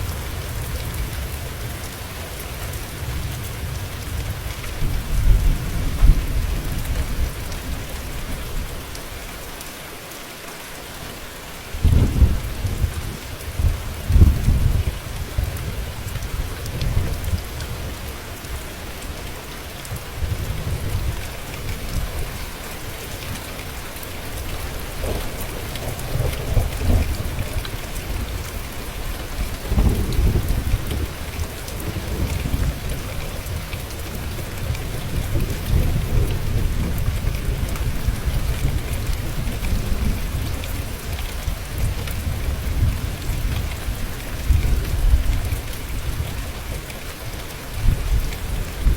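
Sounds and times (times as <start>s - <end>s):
low rolling thunder: 0.0s - 8.8s, 11.7s - 18.1s, 20.0s - 46.8s
heavy rain falling: 0.0s - 48.9s.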